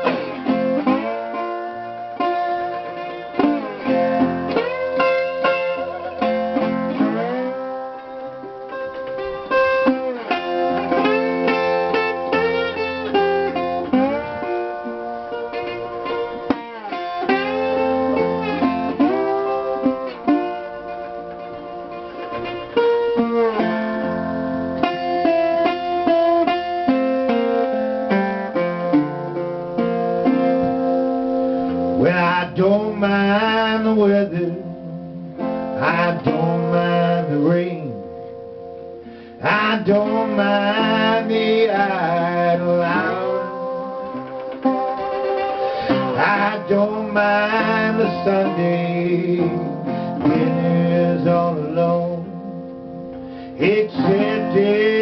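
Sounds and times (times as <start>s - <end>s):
slide resonator guitar blues solo: 0.0s - 55.0s.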